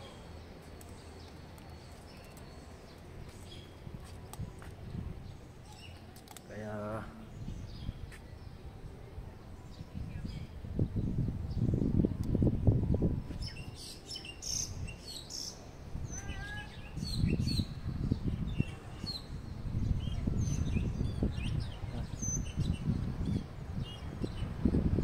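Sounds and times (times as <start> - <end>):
small birds chirping: 0.0 - 8.6, 13.3 - 25.0.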